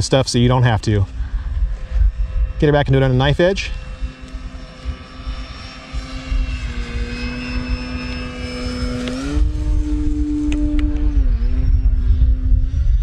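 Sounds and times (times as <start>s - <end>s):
wind rumble on microphone: 0.0s - 13.0s
model plane motor humming: 1.0s - 13.0s.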